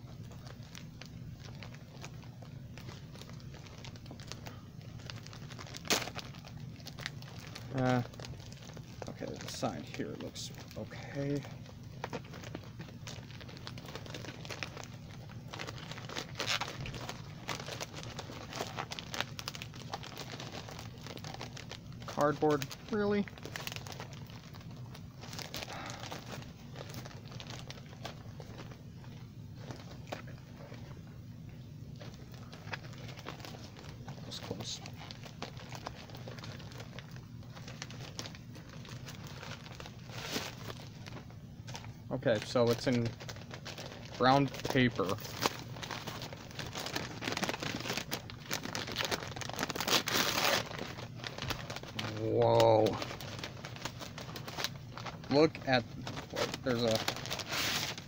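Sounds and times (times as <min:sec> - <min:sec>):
plastic mailer crinkling: 0:00.0 - 0:58.0.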